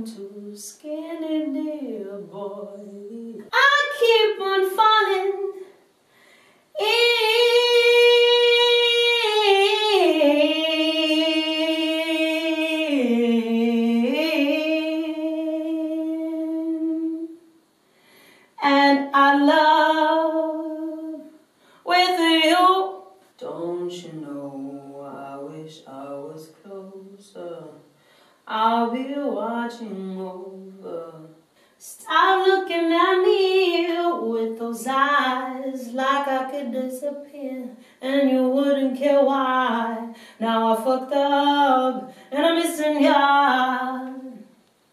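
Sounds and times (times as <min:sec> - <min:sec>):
woman singing a cappella: 0:00.0 - 0:05.9, 0:06.7 - 0:17.5, 0:18.5 - 0:44.6.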